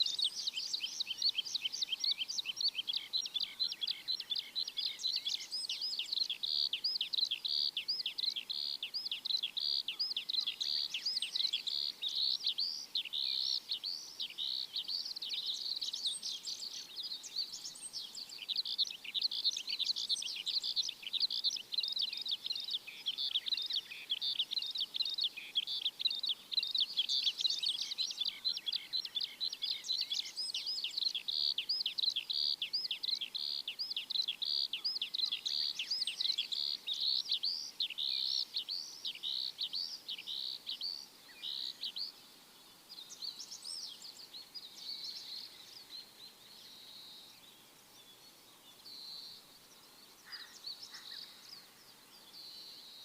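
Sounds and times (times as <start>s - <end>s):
flock of small birds chirping: 0.0s - 53.0s.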